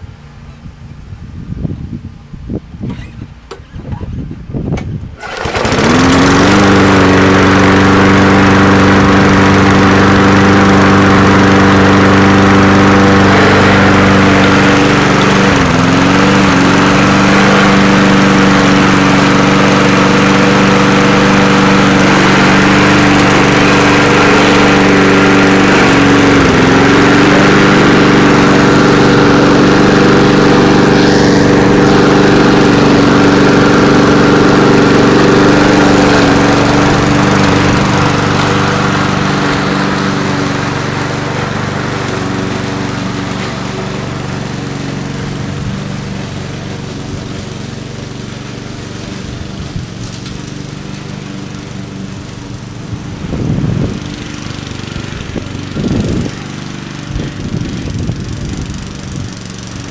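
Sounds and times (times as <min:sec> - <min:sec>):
lawn mower engine running: 0:02.2 - 0:59.9.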